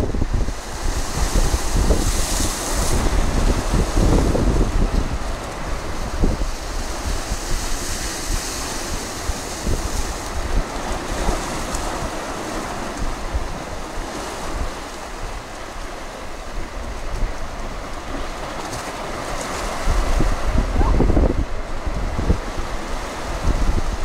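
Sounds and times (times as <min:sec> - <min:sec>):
waves breaking on rocks: 0:00.0 - 0:24.0
wind rumble on microphone: 0:00.0 - 0:24.0.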